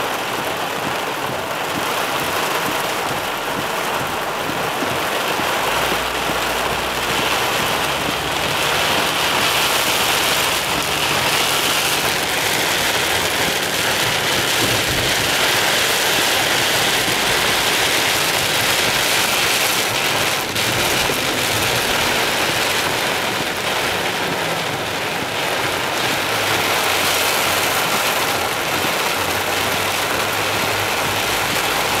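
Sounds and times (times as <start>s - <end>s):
hard rain on car roof: 0.0s - 32.0s.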